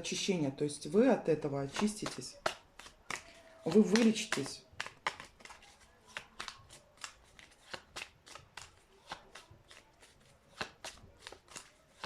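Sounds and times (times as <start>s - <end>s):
cards being shuffled: 1.6s - 12.0s.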